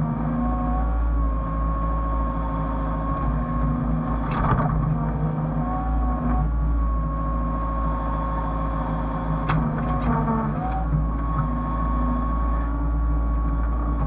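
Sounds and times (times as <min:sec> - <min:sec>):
excavator diesel engine running: 0:00.0 - 0:14.0
hydraulic whine: 0:00.0 - 0:14.0.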